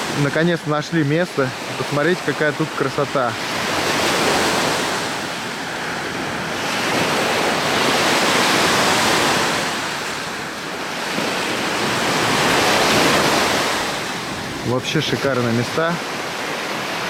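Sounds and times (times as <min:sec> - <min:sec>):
waves washing onto shore: 0:00.0 - 0:17.0.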